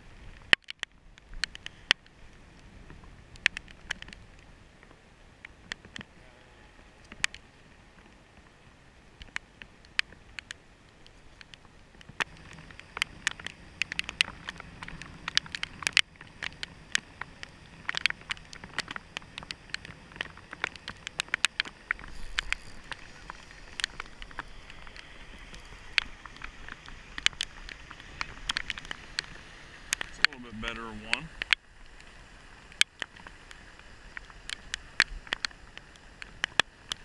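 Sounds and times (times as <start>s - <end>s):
low wind rumble: 0.0s - 37.0s
rain hiss: 0.0s - 37.0s
raindrops ticking: 0.2s - 6.2s, 7.0s - 37.0s.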